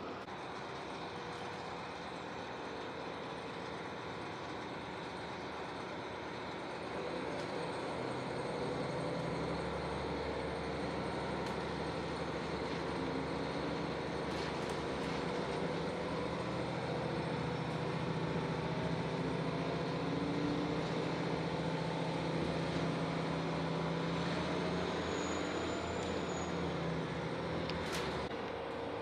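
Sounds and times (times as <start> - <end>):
train engine hum: 0.0 - 29.0
wheels rumbling on rails: 0.0 - 29.0.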